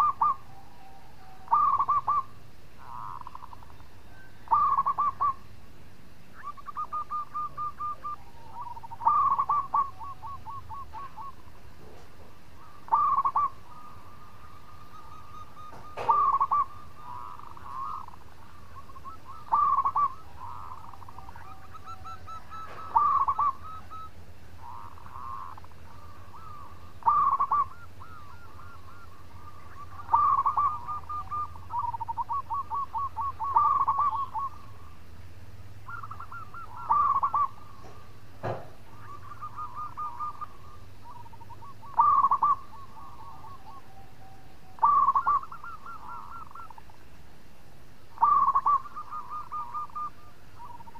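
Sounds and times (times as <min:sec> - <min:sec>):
dove cooing: 0:00.0 - 0:05.6, 0:06.2 - 0:35.1, 0:35.8 - 0:50.9
steady low hum: 0:00.0 - 0:50.9.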